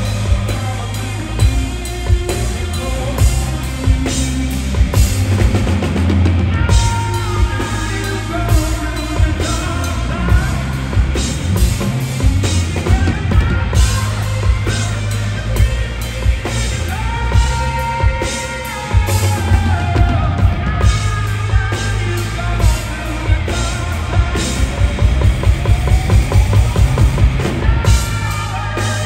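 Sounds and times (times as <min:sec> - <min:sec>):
bass drum pounding: 0:00.0 - 0:29.0
person singing: 0:00.0 - 0:29.0
rock band playing: 0:00.0 - 0:29.0.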